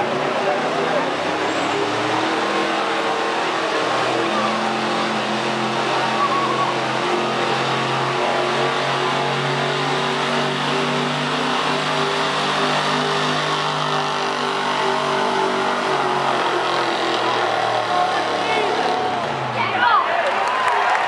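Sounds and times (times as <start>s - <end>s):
pickup engine revving hard: 0.0s - 19.6s.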